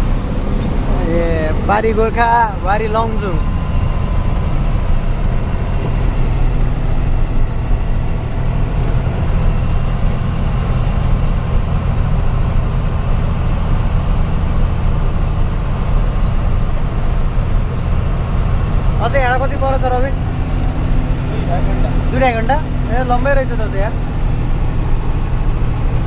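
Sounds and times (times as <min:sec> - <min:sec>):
road noise: 0:00.0 - 0:26.0
truck engine droning: 0:00.0 - 0:26.0.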